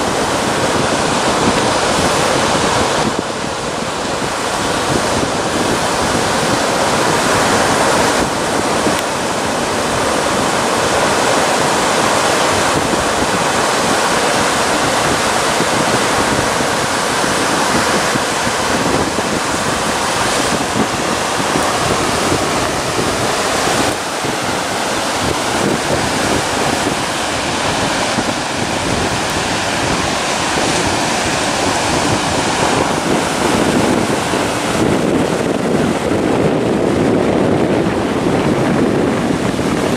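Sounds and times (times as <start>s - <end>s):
surf washing over reef: 0.0s - 39.9s
wind on microphone: 0.0s - 39.9s.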